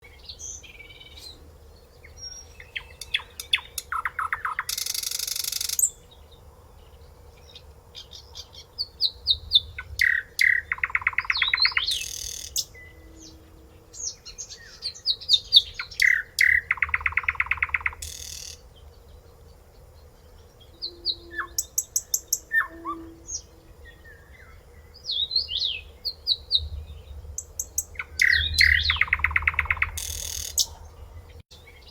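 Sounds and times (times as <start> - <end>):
soft bird chirps: 0.0 - 31.9
songbird singing trill phrase: 0.0 - 31.9.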